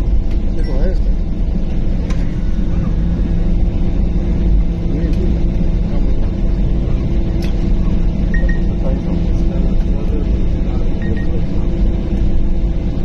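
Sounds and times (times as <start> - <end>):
airliner engines humming: 0.0 - 13.0.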